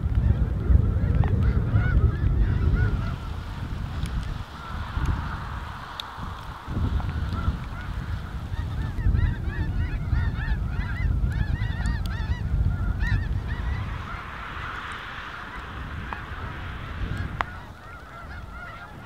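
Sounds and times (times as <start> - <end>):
low rumble: 0.0 - 11.3, 11.9 - 18.8
geese honking: 1.3 - 19.0.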